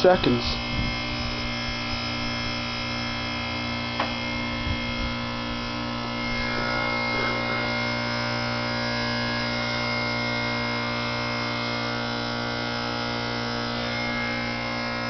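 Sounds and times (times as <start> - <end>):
compressor humming: 0.0 - 15.0.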